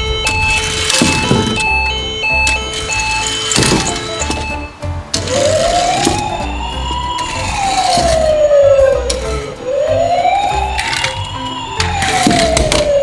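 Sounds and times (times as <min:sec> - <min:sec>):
background music: 0:00.0 - 0:13.0
siren wailing: 0:00.0 - 0:13.0.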